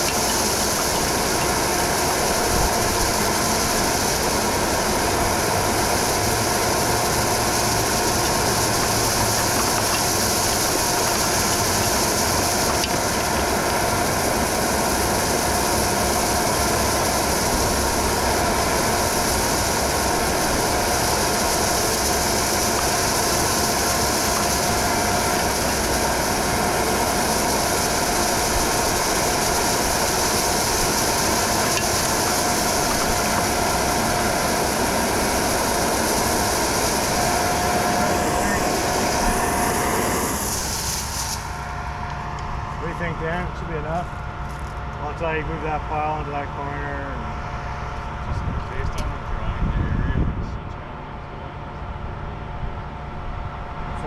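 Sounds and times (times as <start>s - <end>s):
diesel machinery rumble: 0.0s - 54.0s
mechanical whine and hiss: 0.0s - 54.0s.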